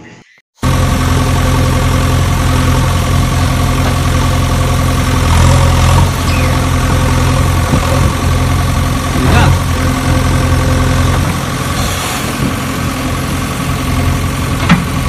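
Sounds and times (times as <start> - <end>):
heavy engine idling: 0.6 - 15.0.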